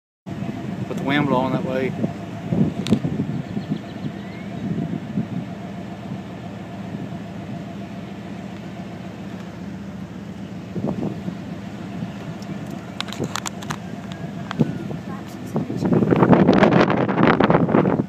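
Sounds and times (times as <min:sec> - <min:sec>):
engine rumble: 0:00.3 - 0:18.0
vehicle engine idling: 0:00.3 - 0:18.0.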